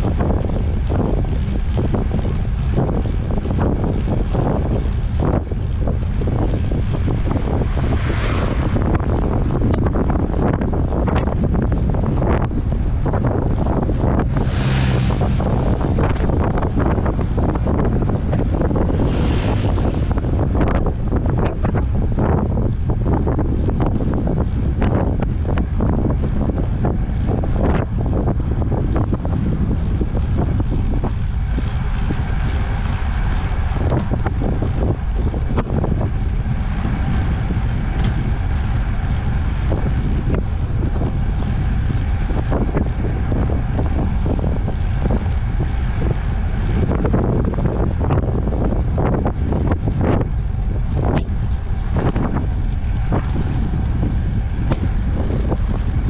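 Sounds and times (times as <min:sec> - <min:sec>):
tyres rolling on asphalt: 0:00.0 - 0:56.0
wind buffeting microphone: 0:00.0 - 0:56.0.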